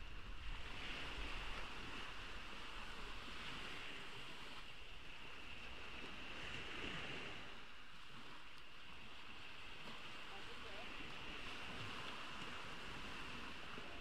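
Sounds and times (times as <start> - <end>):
ocean waves washing onto beach: 0.0 - 14.0.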